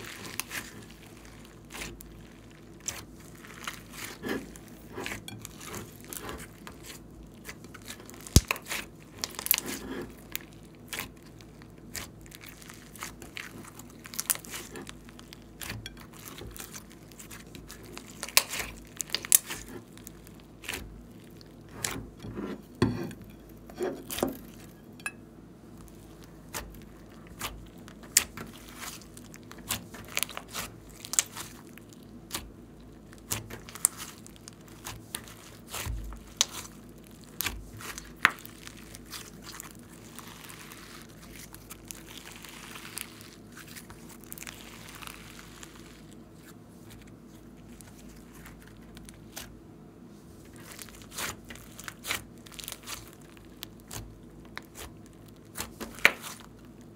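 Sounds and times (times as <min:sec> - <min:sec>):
slime popping and crackling: 0:00.0 - 0:22.0, 0:25.9 - 0:46.2, 0:50.5 - 0:56.9
slime squishing: 0:00.0 - 0:25.1, 0:25.7 - 0:56.9.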